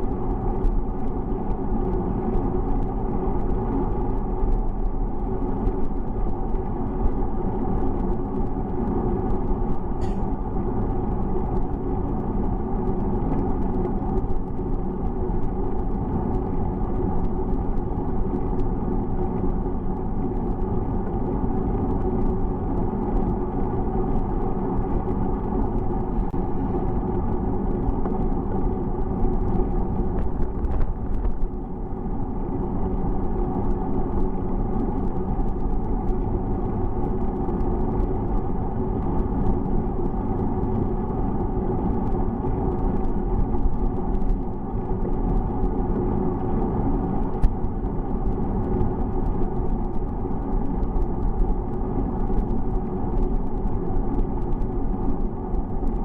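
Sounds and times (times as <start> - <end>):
wind and road rumble from bicycle: 0.0 - 56.0.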